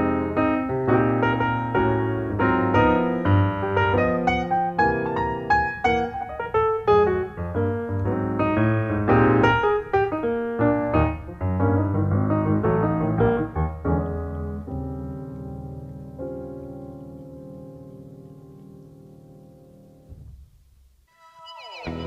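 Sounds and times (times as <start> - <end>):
piano music: 0.0 - 20.4, 21.1 - 22.0.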